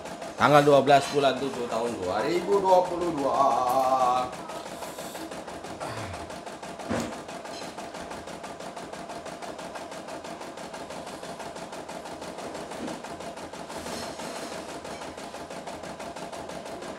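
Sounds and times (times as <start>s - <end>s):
embroidery machine stitching: 0.0s - 16.9s.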